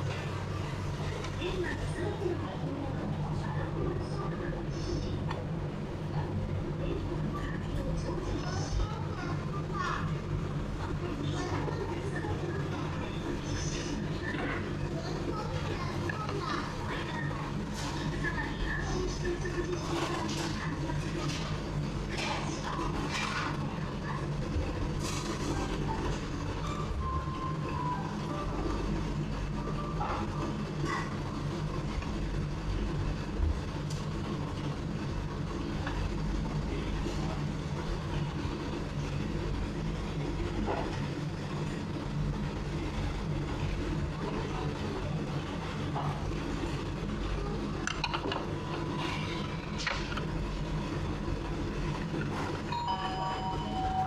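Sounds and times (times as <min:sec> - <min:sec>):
train low hum: 0:00.0 - 0:54.0.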